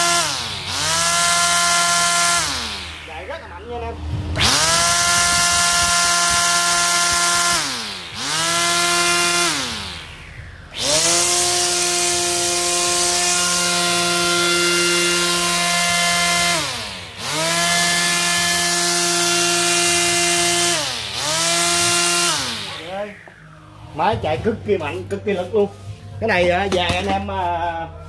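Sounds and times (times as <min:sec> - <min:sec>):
string trimmer motor whining: 0:00.0 - 0:24.1.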